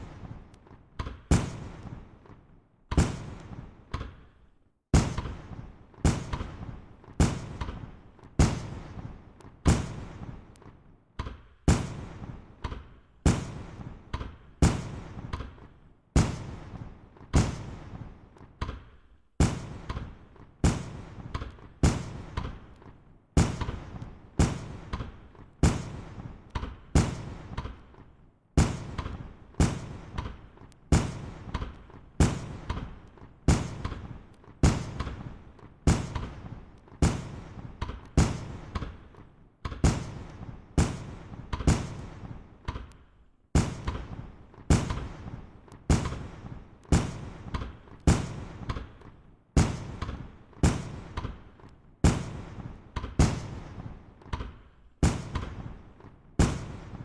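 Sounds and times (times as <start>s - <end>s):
fireworks bangs with echo: 0.0s - 42.9s, 43.5s - 57.0s.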